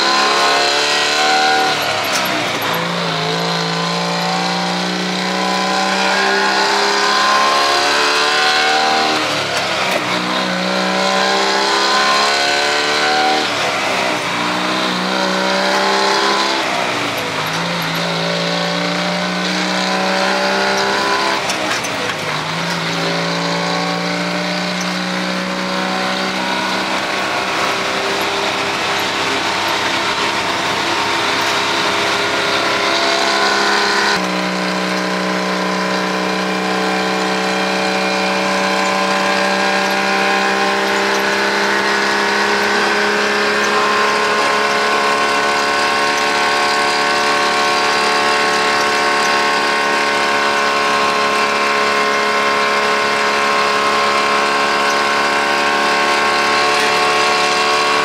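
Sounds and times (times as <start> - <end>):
diesel truck engine pulling: 0.0 - 58.0.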